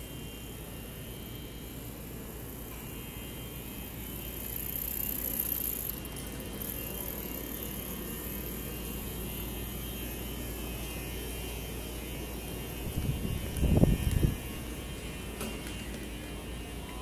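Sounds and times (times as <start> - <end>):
low even city hum: 0.0 - 17.0.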